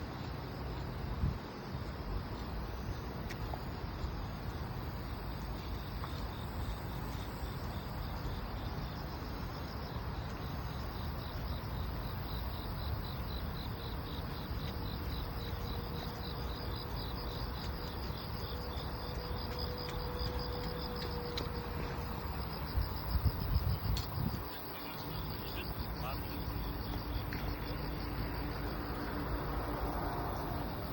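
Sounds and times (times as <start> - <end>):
crickets chirping: 0.0 - 30.9.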